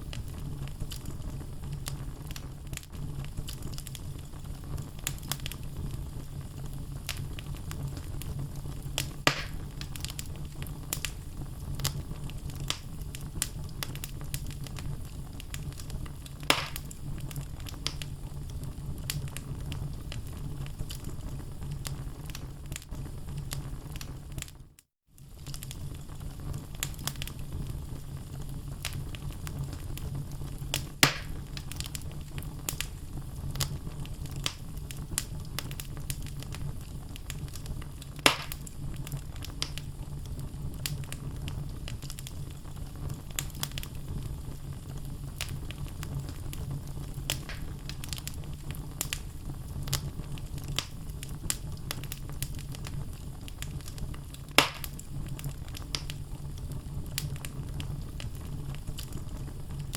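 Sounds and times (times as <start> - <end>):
loud pops from burning logs: 0.0 - 24.6, 25.2 - 59.9
fire rumbling: 0.0 - 59.9
small fire crackles: 0.0 - 59.9.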